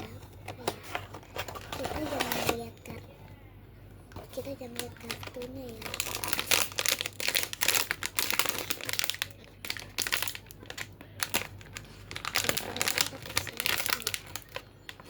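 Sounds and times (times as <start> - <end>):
packaging crinkling: 0.6 - 2.6, 4.2 - 15.0.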